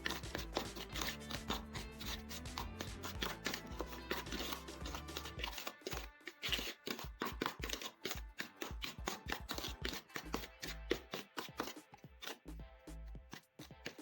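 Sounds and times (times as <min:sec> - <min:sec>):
spoon clicking and scraping: 0:00.0 - 0:12.5, 0:13.3 - 0:14.0
background music: 0:00.0 - 0:14.0.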